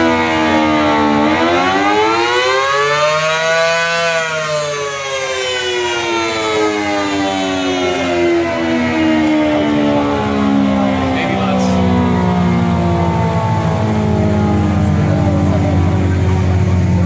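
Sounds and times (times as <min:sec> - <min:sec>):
air-raid siren wailing: 0:00.0 - 0:17.0.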